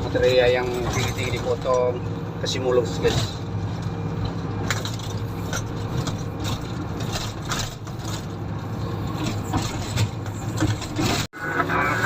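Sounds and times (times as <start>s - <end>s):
motor grader diesel engine: 0.0s - 12.0s.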